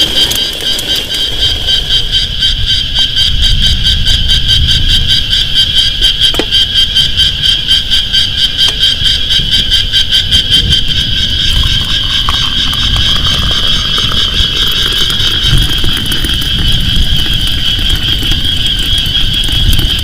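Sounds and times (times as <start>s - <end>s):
night insects chorus: 0.0s - 20.0s.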